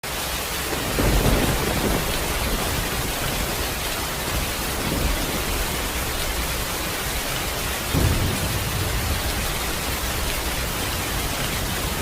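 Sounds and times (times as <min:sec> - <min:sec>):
steady rain falling: 0:00.0 - 0:12.0
thunder rolling: 0:00.6 - 0:12.0.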